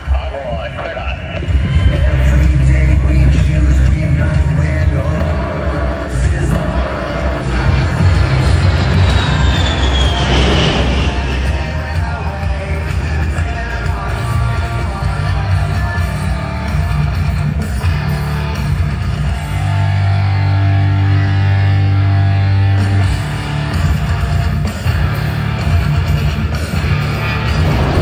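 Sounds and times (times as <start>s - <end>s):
hard rock music: 0.0s - 28.0s.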